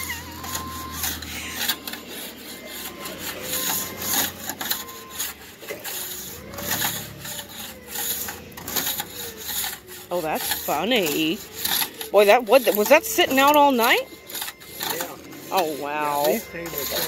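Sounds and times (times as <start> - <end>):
scraper scratching ice off plastic: 0.0 - 17.0.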